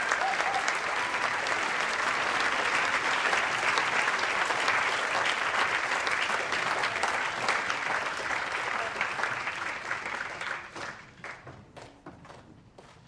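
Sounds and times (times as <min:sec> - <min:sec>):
crowd applauding: 0:00.0 - 0:12.4.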